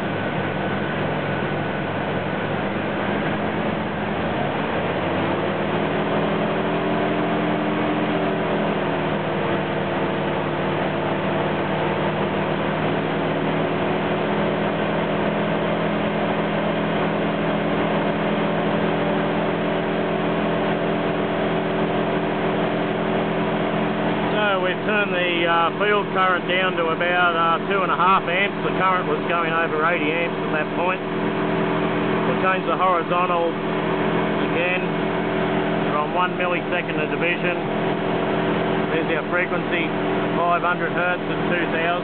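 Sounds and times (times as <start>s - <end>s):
engine revving up and holding: 0.0s - 42.0s.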